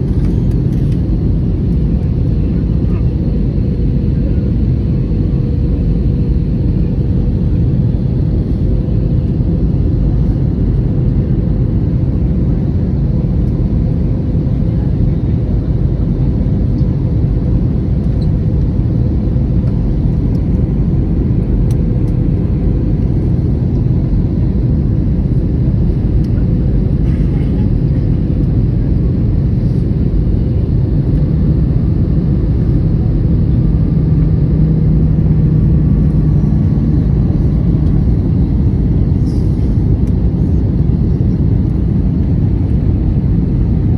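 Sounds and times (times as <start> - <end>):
jet airliner cabin rumble: 0.0 - 43.9.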